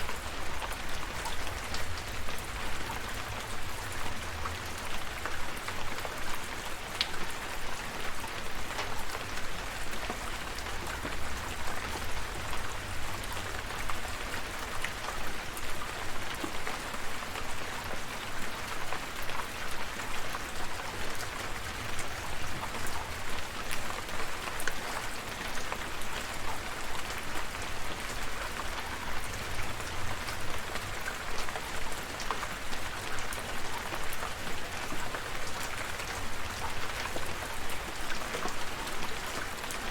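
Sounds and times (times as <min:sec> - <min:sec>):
raindrops pattering: 0:00.0 - 0:39.9.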